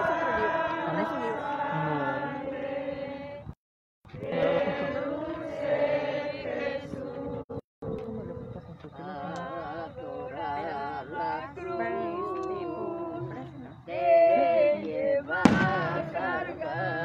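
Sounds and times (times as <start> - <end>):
crowd singing a hymn: 0.0 - 17.0.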